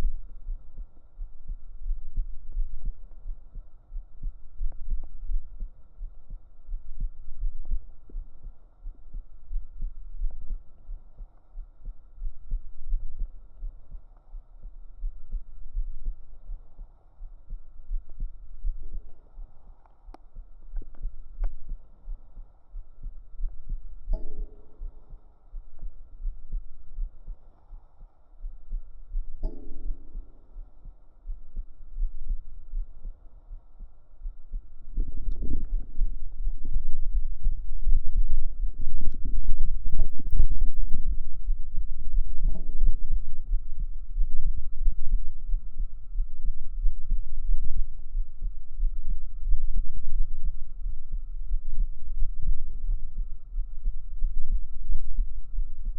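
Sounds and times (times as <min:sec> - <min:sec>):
heartbeat thuds: 0:00.0 - 0:55.9.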